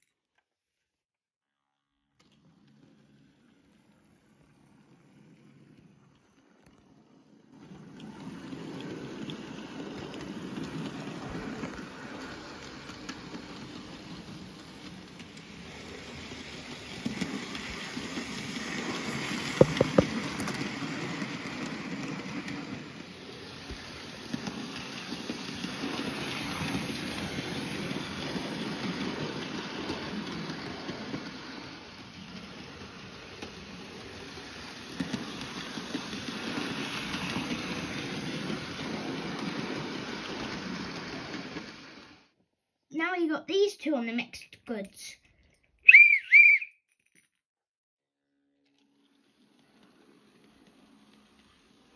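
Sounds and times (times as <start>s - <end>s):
wheels rattling over rails: 2.2s - 42.3s, 48.7s - 51.9s.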